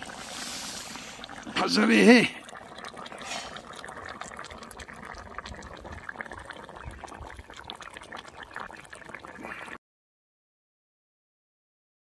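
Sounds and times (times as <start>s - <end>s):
stew bubbling: 0.0s - 9.8s.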